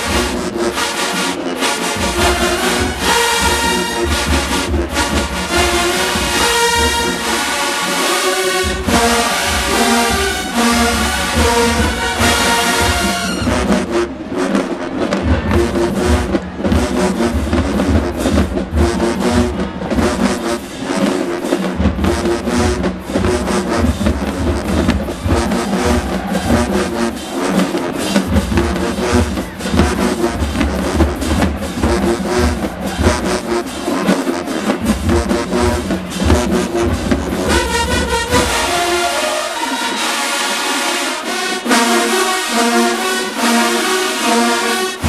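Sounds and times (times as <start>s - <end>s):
marching drumline bass drum groove: 0.0s - 40.1s
brass section held chords: 0.0s - 45.0s.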